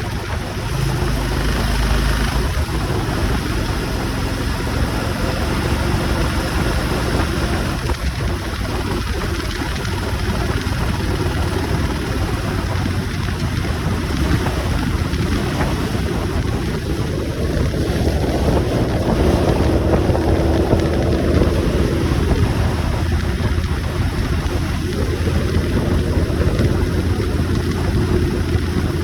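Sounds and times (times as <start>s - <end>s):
motorcycle engine running: 0.0s - 29.0s
wind rushing over microphone: 0.0s - 29.0s.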